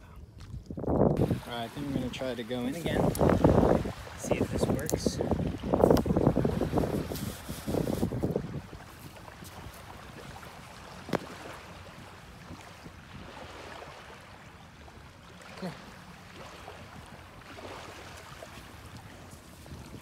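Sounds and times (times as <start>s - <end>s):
wind on microphone: 0.0s - 14.0s, 16.4s - 20.0s
small waves washing onto beach: 1.2s - 20.0s.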